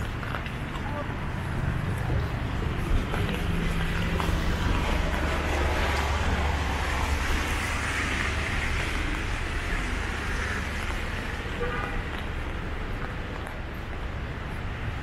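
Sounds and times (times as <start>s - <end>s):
low rumble of passing vehicles: 0.0s - 15.0s
tyre and road noise: 0.0s - 15.0s.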